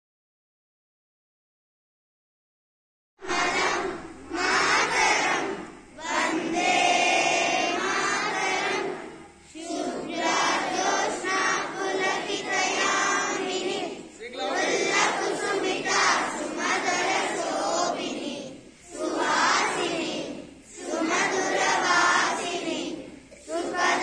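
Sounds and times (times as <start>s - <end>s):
children singing in unison: 3.2s - 24.0s.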